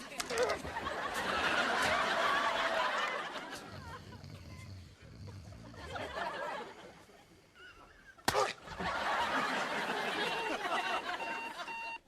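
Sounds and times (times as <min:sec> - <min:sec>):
studio audience laughing: 0:00.5 - 0:04.4, 0:05.4 - 0:12.0.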